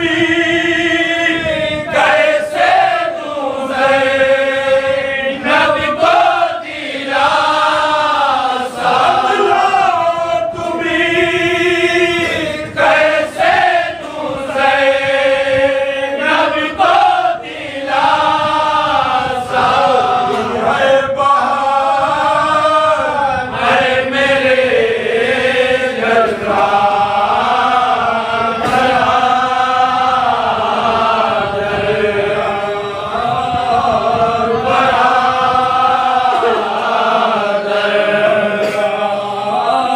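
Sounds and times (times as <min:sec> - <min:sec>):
men chanting together: 0:00.0 - 0:39.9.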